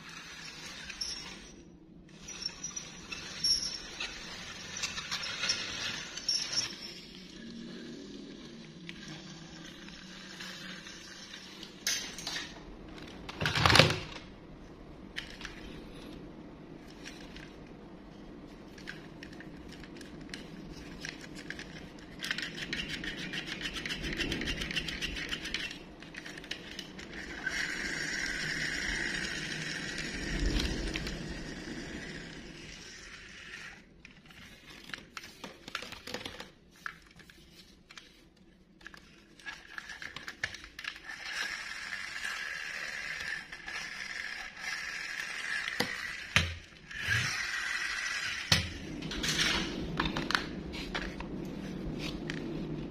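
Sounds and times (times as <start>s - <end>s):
toy truck wheels scraping and whirring: 0.0s - 14.2s, 18.6s - 52.9s.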